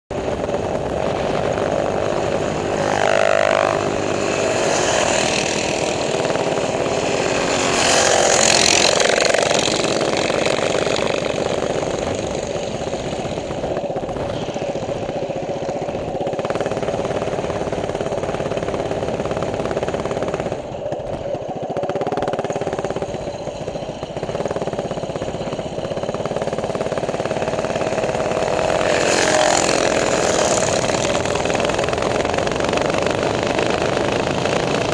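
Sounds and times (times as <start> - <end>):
minibike engine revving: 0.1 - 34.9.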